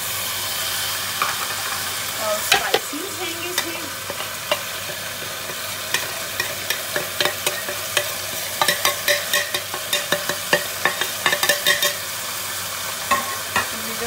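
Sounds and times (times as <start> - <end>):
food frying in oil: 0.0 - 14.0.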